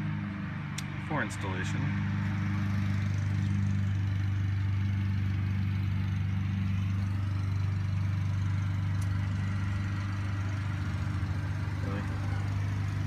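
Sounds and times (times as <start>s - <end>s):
motor humming: 1.9s - 13.0s.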